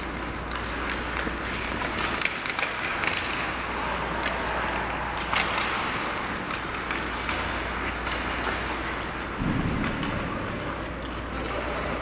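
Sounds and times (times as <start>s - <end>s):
hockey sticks clicking on ice: 0.0s - 12.0s
skate blades scraping ice: 0.0s - 12.0s.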